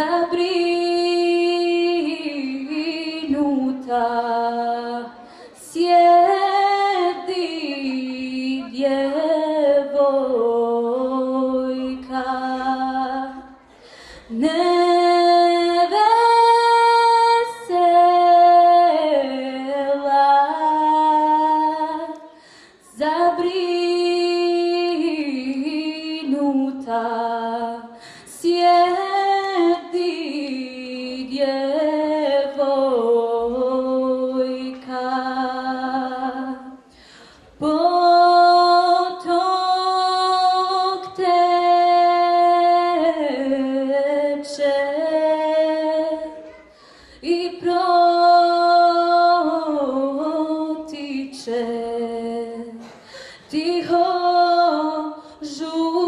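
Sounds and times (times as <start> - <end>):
girl singing unaccompanied: 0.0 - 36.9, 37.6 - 56.0.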